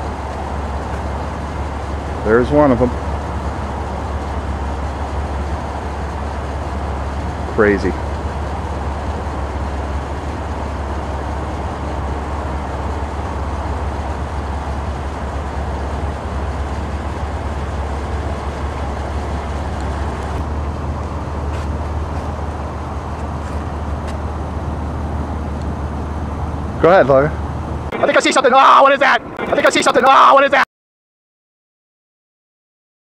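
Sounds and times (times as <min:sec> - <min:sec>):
car engine and tyre rumble: 0:00.0 - 0:30.6.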